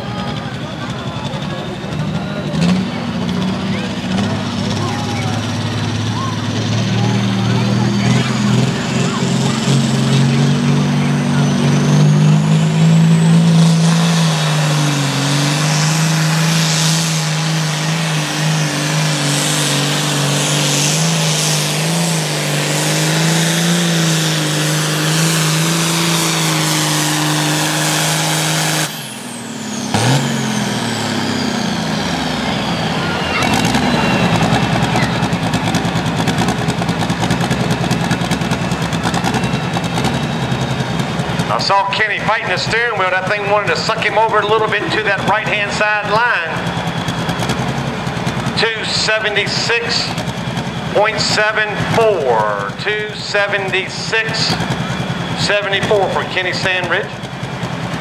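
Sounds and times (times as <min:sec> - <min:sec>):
high turbo whine: 0:00.0 - 0:58.0
tractor diesel engine at full throttle: 0:00.0 - 0:58.0.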